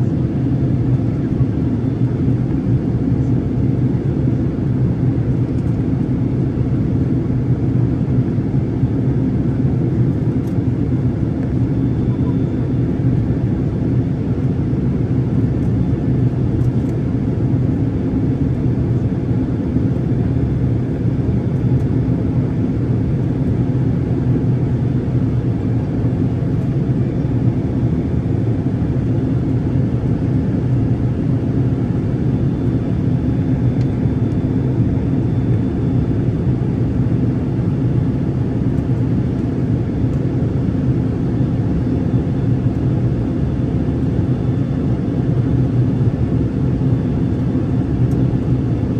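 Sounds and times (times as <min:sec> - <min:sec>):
aircraft cabin drone: 0:00.0 - 0:48.9.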